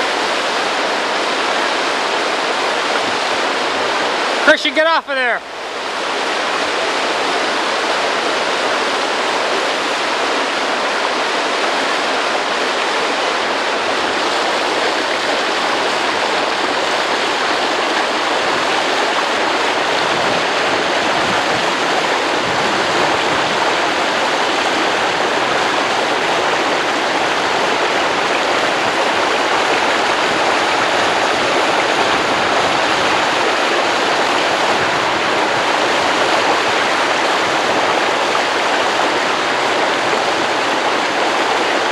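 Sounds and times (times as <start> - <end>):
river water rushing over rocks: 0.0 - 41.9.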